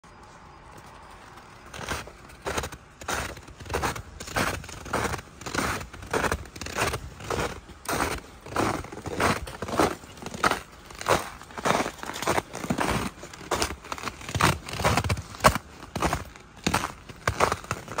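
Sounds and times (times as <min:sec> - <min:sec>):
footsteps crunching in snow: 0:00.2 - 0:18.0.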